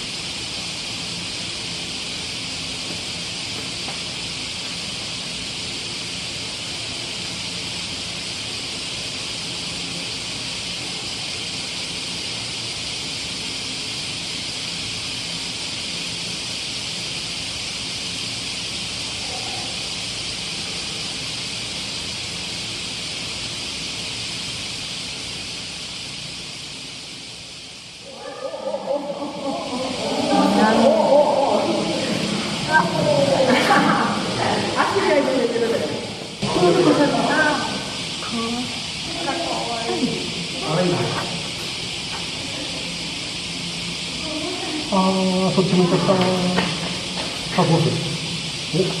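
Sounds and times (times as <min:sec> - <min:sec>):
high-pitched hiss: 0:00.0 - 0:49.0.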